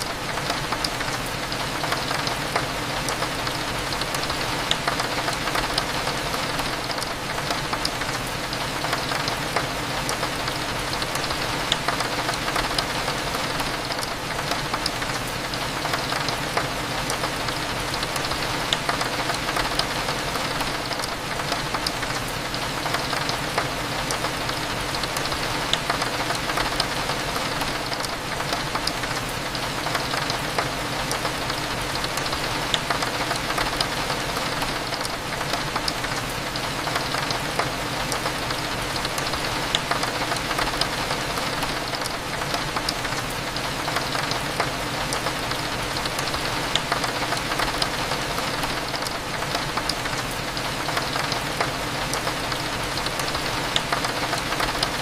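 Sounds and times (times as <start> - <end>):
rain on a window pane: 0.0 - 55.0.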